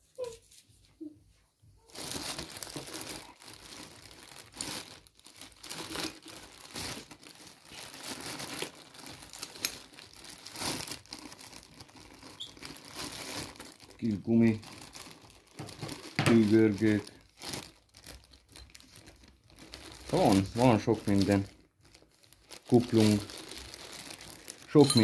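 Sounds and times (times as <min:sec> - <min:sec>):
plastic bag crinkling: 0:01.8 - 0:25.0.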